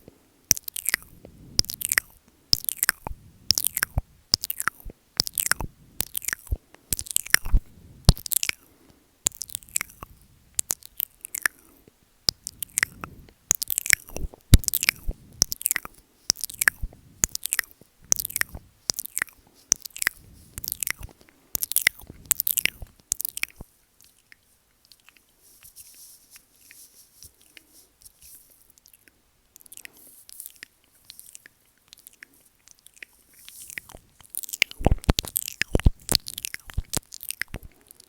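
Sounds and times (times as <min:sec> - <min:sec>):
wet mouth clicks and smacks: 0:00.0 - 0:25.3, 0:28.7 - 0:38.0.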